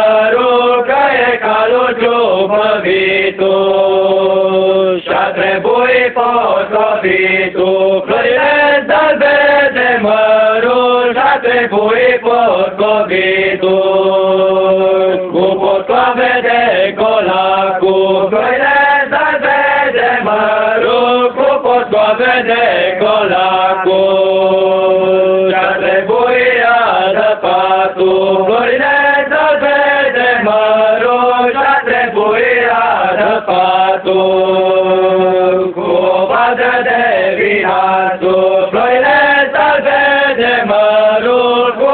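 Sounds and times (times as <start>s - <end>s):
young men singing a carol: 0.0s - 41.9s.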